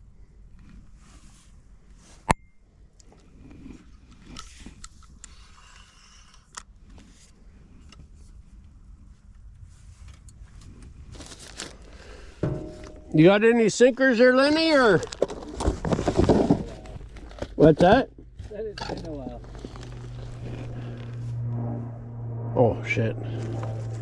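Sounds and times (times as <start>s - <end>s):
gear scraping and rustling: 3.2s - 21.8s, 22.8s - 24.0s.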